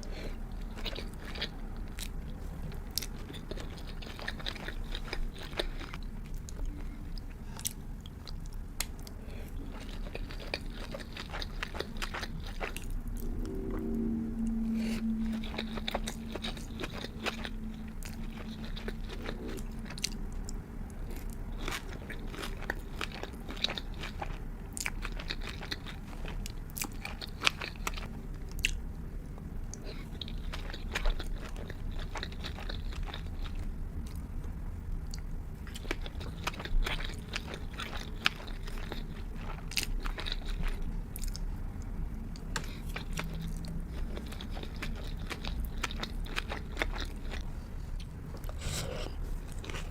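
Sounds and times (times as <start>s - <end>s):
person chewing food: 0.0s - 28.8s, 29.4s - 49.9s.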